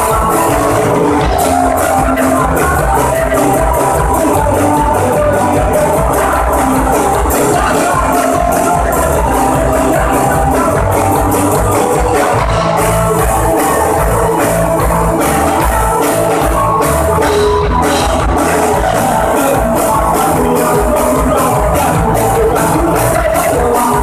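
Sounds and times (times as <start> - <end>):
bass guitar: 0.0 - 24.0
drum kit beat: 0.0 - 24.0
electric guitars: 0.0 - 24.0.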